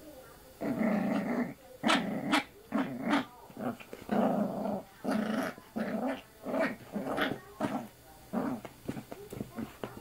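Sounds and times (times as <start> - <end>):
puppy growling: 0.6 - 10.0.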